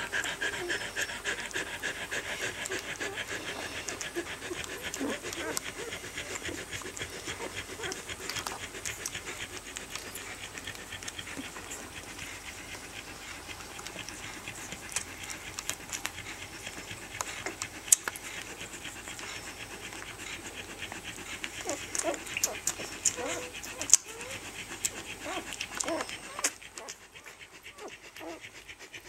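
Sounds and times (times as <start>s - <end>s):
dog panting: 0.0s - 29.0s.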